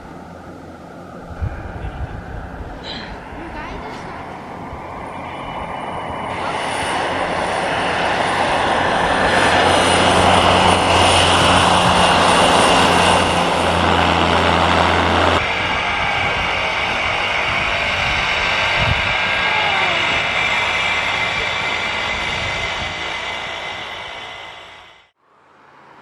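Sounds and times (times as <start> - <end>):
airplane engine and propeller drone: 0.0 - 26.0.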